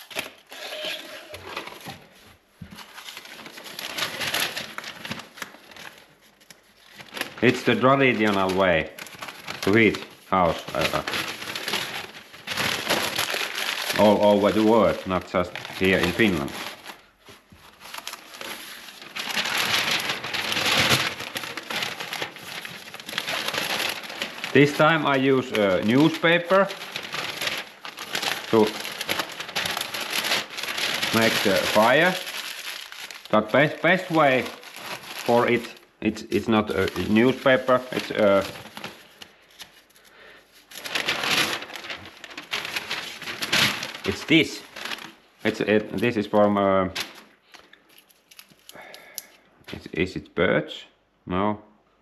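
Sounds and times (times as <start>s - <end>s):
firewood and paper rustling: 0.0s - 49.8s
newspaper being crumpled: 0.0s - 49.9s.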